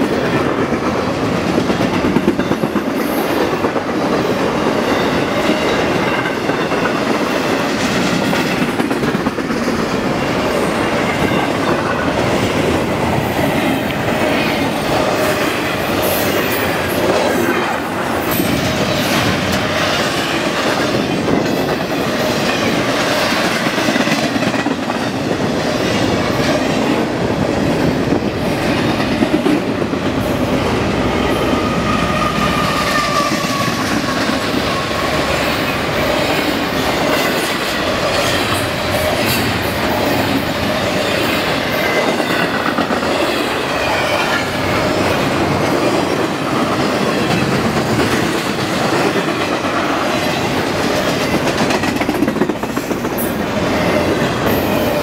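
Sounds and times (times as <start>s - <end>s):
train wheels clattering over rails: 0.0s - 55.0s.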